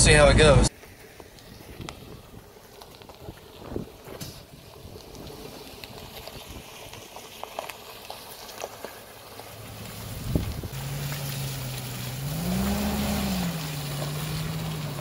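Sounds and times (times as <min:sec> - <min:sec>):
vehicle driving over muddy ground: 0:00.1 - 0:15.0.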